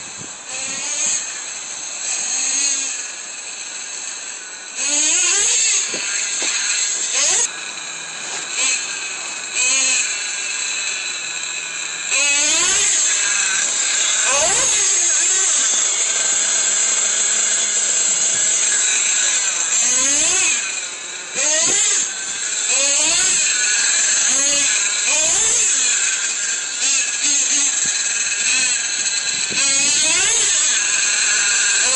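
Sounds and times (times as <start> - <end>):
rc truck engine whine: 0.0 - 31.9.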